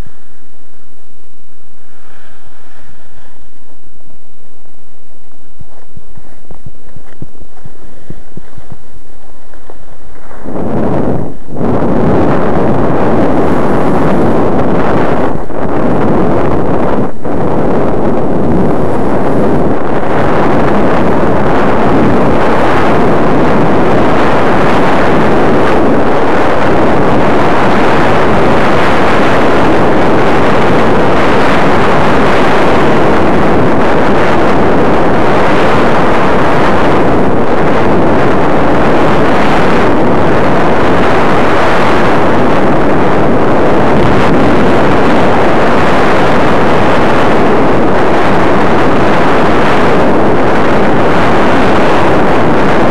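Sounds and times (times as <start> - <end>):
wind noise on microphone: 0.0 - 52.9.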